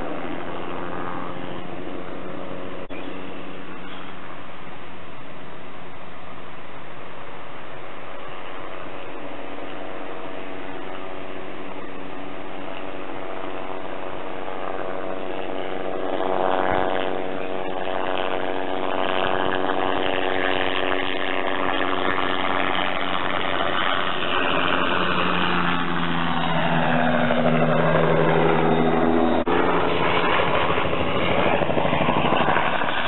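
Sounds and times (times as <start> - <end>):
helicopter flying low: 0.0 - 33.0.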